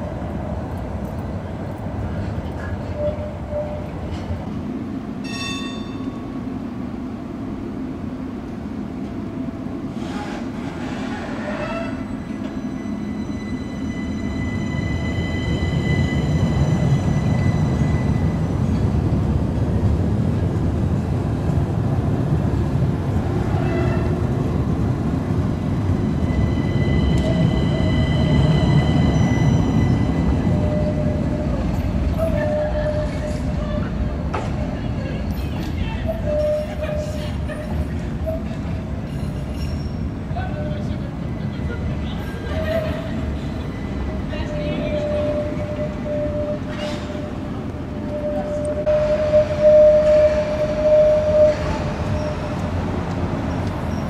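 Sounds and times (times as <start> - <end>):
tram wheels rumbling: 0.0 - 54.0.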